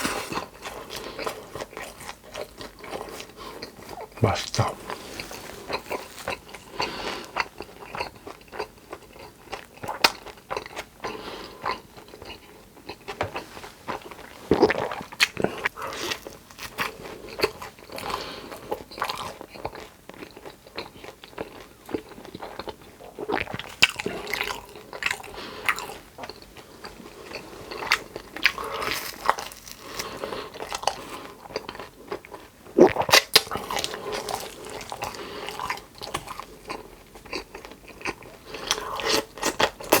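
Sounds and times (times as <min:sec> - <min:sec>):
crunchy chewing of food: 0:00.0 - 0:40.0.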